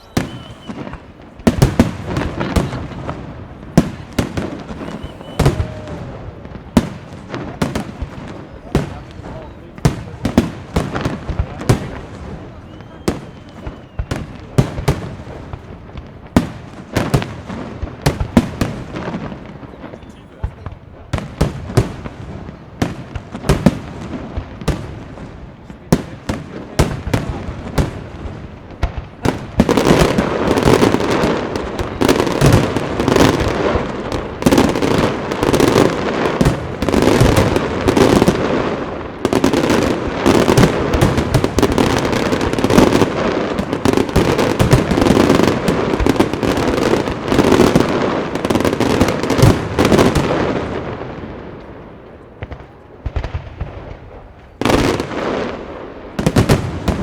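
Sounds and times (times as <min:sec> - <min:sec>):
fireworks bangs: 0:00.0 - 0:57.0
fireworks crackle: 0:00.0 - 0:57.0.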